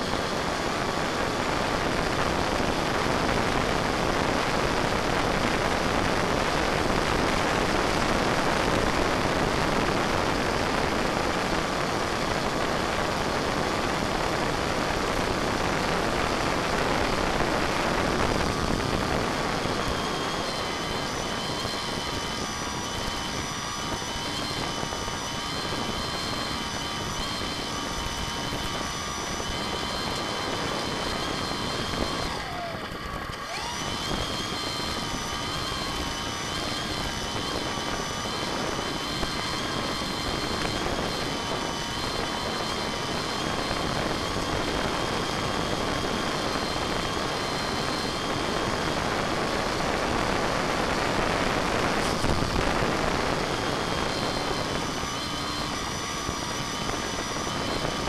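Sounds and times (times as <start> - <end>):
model airplane motor whine: 0.0 - 58.0
rushing wind noise: 0.0 - 58.0.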